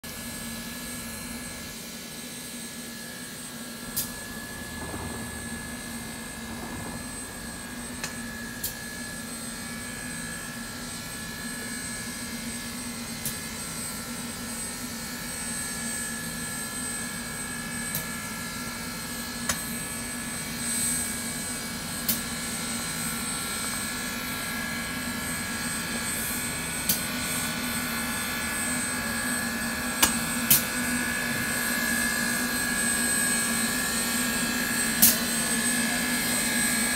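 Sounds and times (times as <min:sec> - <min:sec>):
steam locomotive hiss and hum: 0:00.1 - 0:36.9.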